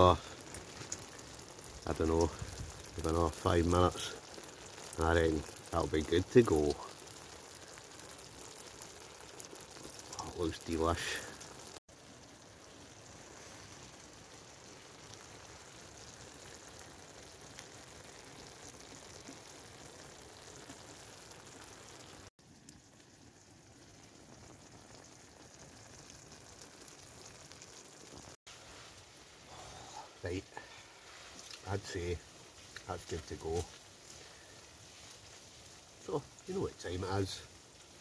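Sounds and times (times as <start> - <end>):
curry bubbling and sizzling: 0.0 - 38.0.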